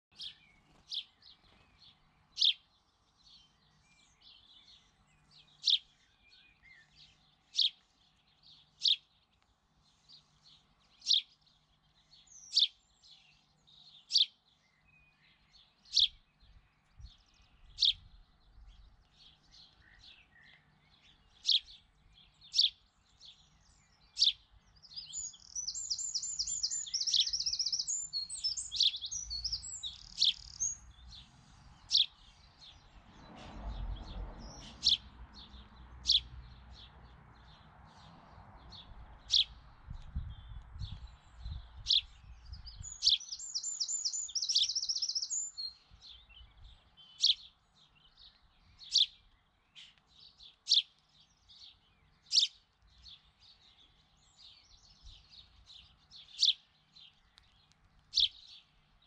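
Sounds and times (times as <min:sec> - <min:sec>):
small bird chirping: 0:00.1 - 0:59.0.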